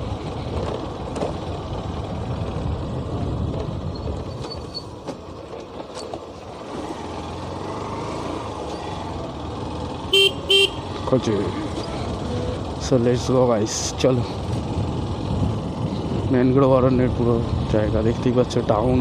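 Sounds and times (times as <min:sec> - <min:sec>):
motorcycle engine running: 0:00.0 - 0:04.8, 0:06.3 - 0:18.0
road rumble: 0:00.0 - 0:19.0.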